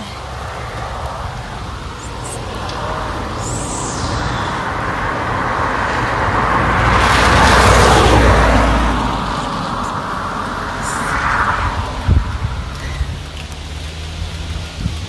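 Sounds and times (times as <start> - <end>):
steady rain: 0.0 - 15.0
tyres hissing on wet road: 0.0 - 15.0.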